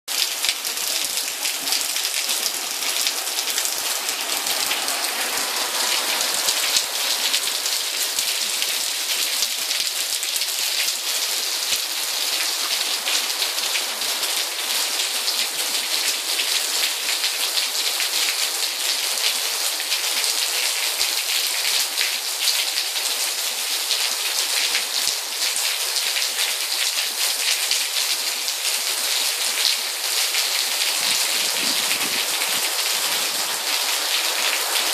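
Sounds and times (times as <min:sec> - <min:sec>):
rain on patio and plants: 0:00.1 - 0:34.9.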